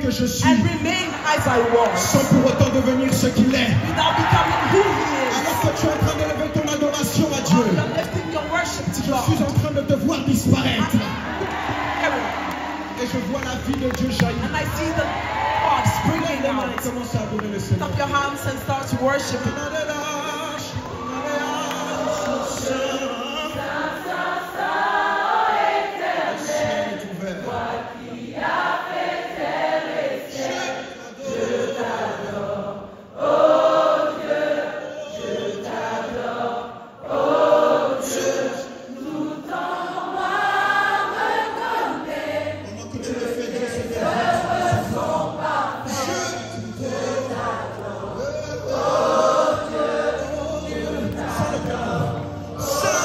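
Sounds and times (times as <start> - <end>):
group singing gospel song: 0.0 - 53.0.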